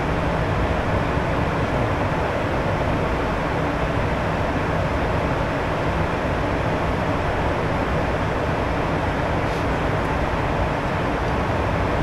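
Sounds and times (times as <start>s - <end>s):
jet engine and airflow rush: 0.0s - 12.0s.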